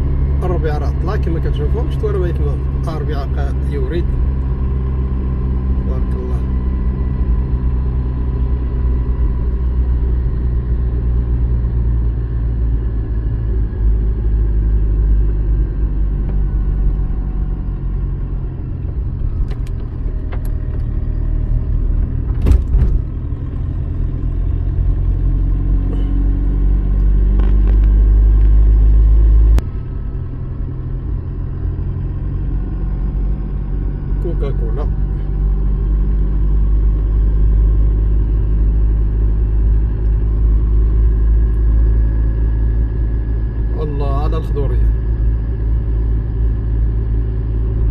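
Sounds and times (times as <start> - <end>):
car engine and tyre rumble: 0.0 - 47.9.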